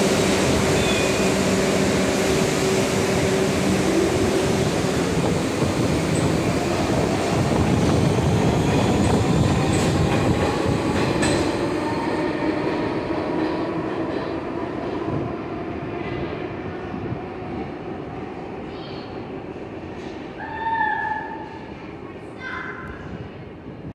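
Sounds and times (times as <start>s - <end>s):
subway train wheel rumble: 0.0s - 23.9s.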